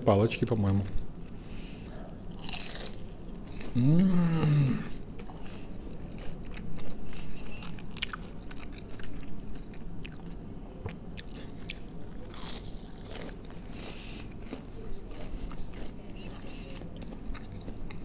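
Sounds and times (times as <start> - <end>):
person chewing crunchy snacks: 0.7 - 18.0
sharp crunchy bites: 2.3 - 10.2, 11.1 - 18.0.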